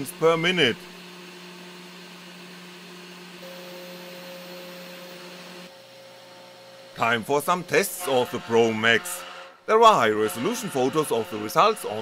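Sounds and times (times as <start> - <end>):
milling motor humming: 0.0 - 9.3, 10.1 - 12.0.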